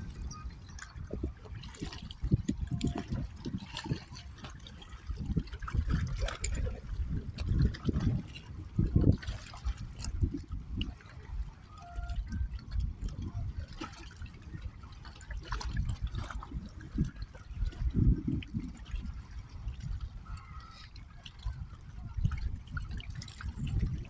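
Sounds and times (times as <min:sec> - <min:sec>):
lake water lapping and splashing: 0:00.0 - 0:24.0.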